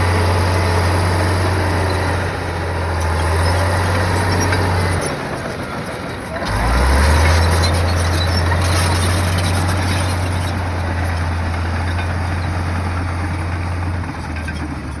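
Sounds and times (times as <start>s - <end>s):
diesel engine low drone: 0.0s - 15.0s.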